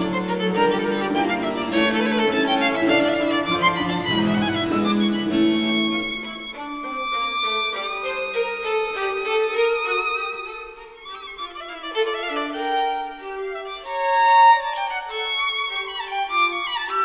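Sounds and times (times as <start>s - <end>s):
violin playing a melody: 0.0s - 17.0s.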